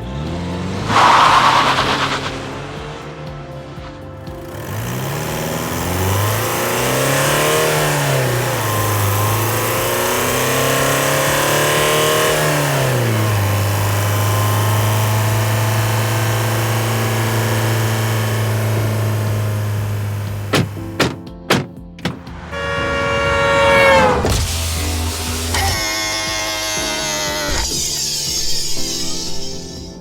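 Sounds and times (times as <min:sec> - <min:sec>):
diesel engine revving: 0:00.0 - 0:29.8.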